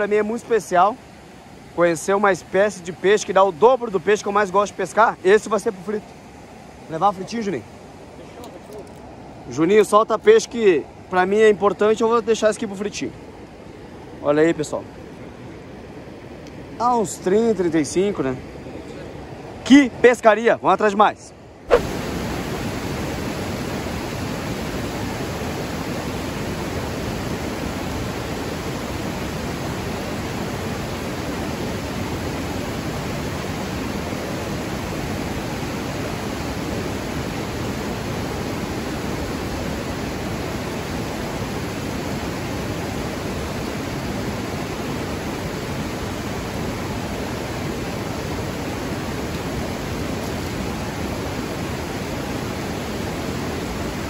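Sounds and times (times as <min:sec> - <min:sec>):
water rushing over rocks: 0:00.0 - 0:14.9, 0:21.7 - 0:54.0.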